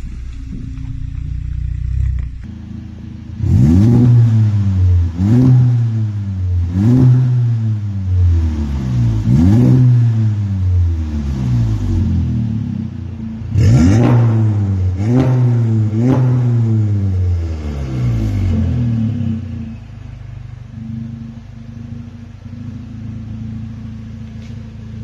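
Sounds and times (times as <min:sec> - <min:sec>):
car engine idling: 0:00.0 - 0:06.9, 0:10.0 - 0:25.0
car engine revving: 0:00.0 - 0:25.0.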